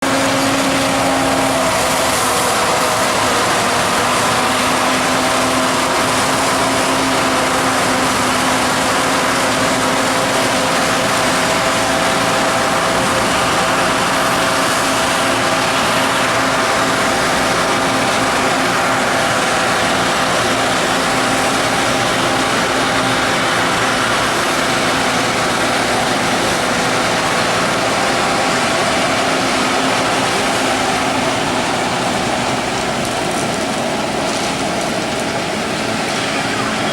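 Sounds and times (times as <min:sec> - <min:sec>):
forage harvester running: 0:00.0 - 0:36.9.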